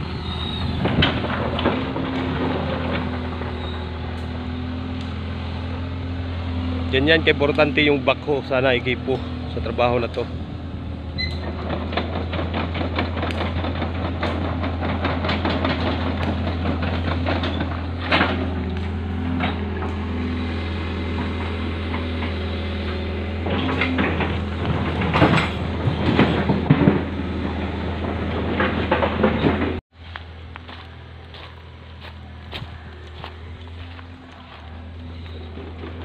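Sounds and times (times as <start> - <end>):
excavator diesel engine running: 0.0 - 36.0
tracks clanking on gravel: 0.1 - 4.4, 11.1 - 36.0.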